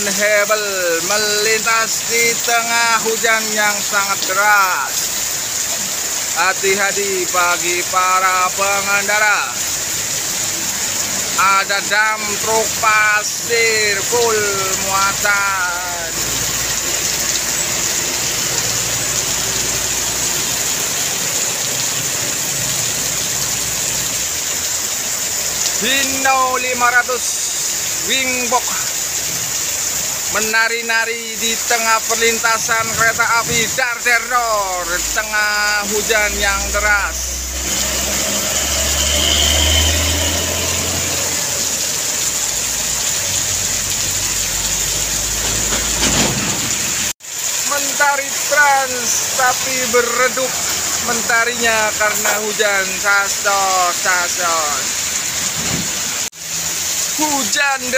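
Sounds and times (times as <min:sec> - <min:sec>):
heavy rain hissing: 0:00.0 - 0:57.9.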